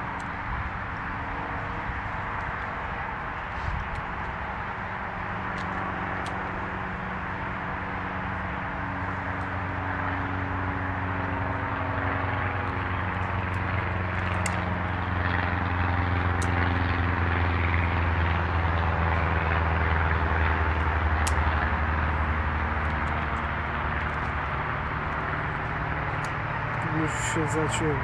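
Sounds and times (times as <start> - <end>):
engine drone: 0.0 - 28.0.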